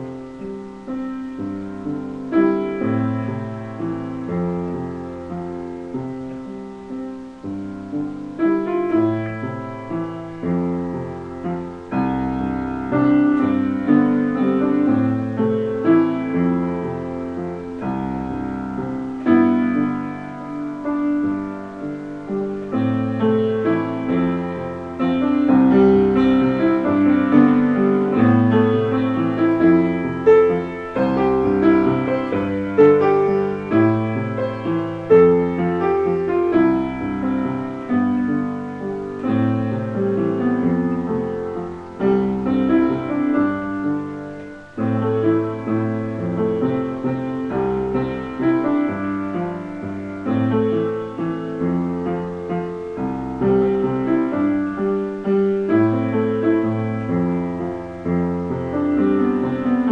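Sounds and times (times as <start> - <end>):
solo piano playing: 0.0 - 59.9.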